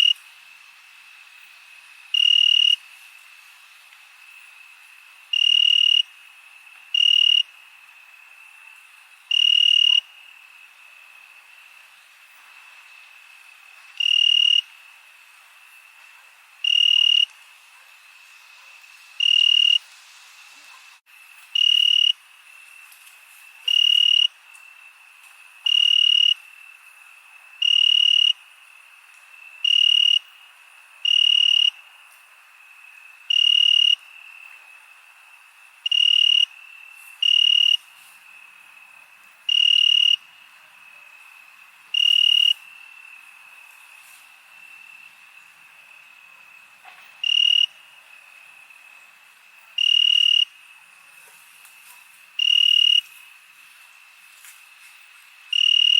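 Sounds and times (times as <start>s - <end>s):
background cricket trill: 0.0s - 55.9s
loud cricket chirp: 0.0s - 55.9s.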